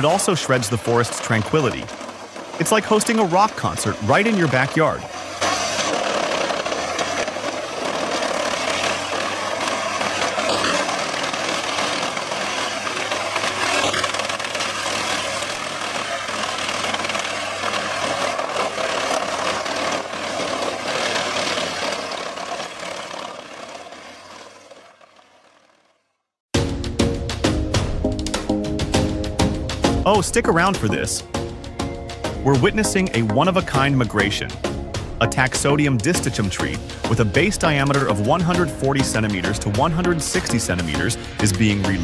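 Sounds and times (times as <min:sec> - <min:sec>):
wood chipper machine drone: 0:00.0 - 0:42.0.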